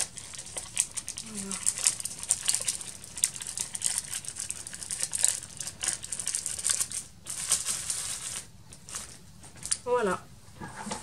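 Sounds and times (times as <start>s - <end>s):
crinkly paper rustling: 0.0s - 9.8s.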